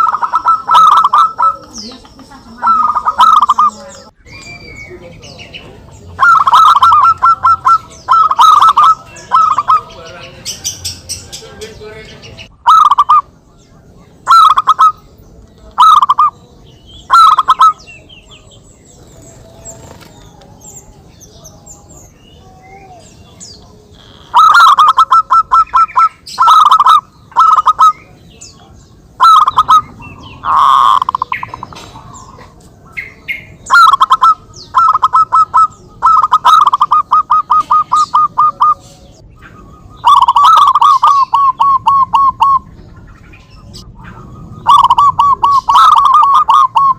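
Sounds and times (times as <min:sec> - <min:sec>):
doves cooing: 0:00.0 - 0:11.5, 0:12.4 - 0:46.9.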